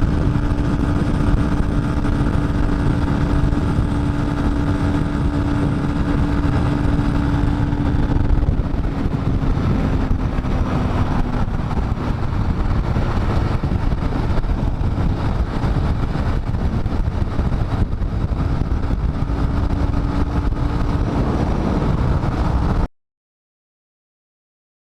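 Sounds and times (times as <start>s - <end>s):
motorcycle engine running: 0.0s - 22.9s
wind noise on microphone: 0.0s - 22.9s.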